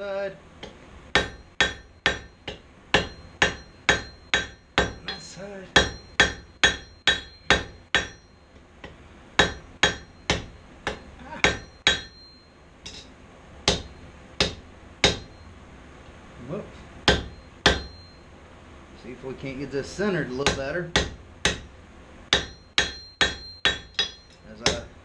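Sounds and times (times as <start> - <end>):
hammer striking steel on anvil: 0.6 - 15.4, 17.0 - 18.2, 20.3 - 21.7, 22.3 - 25.0.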